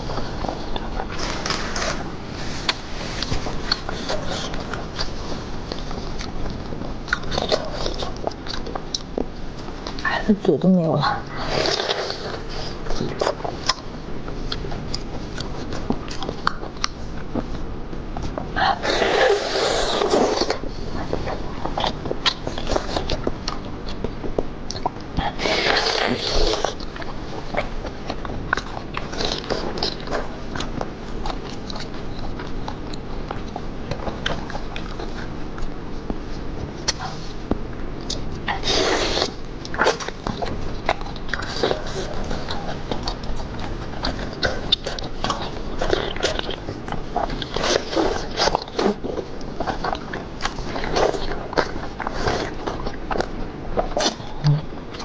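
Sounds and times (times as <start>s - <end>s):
wet chewing and sucking: 0.0s - 10.1s, 11.2s - 55.0s.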